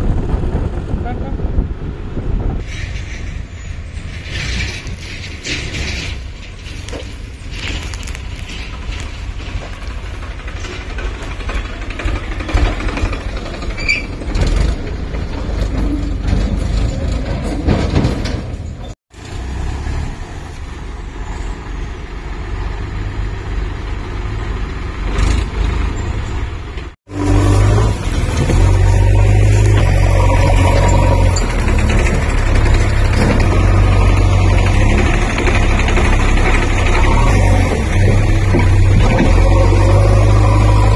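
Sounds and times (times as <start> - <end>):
diesel tractor engines running: 0.0 - 40.9
backhoe loader engine: 2.6 - 40.9.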